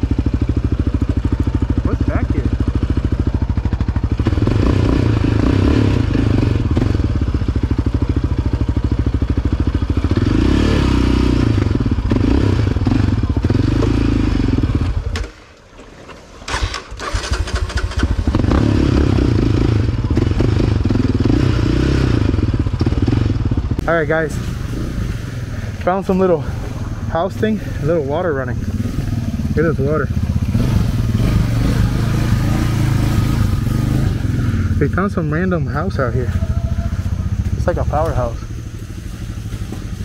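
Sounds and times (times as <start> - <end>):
quad bike engine revving: 0.0 - 15.3, 16.5 - 40.0.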